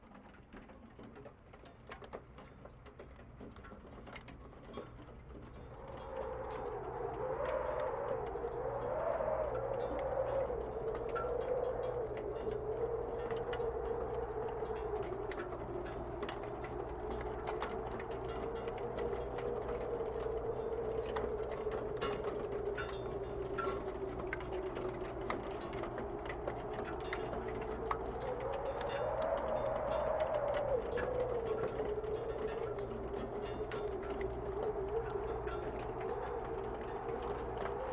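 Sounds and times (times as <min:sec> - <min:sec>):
moaning blizzard wind: 0:05.3 - 0:37.9.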